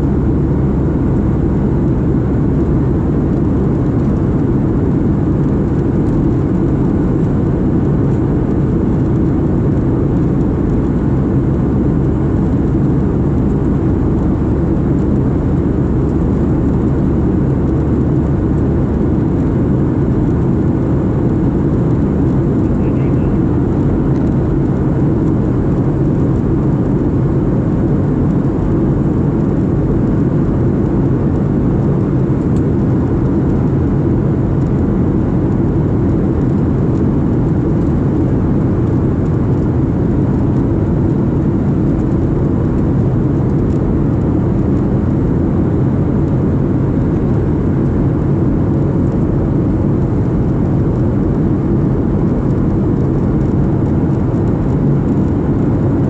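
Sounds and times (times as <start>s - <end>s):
airliner rumble in flight: 0.0s - 56.0s.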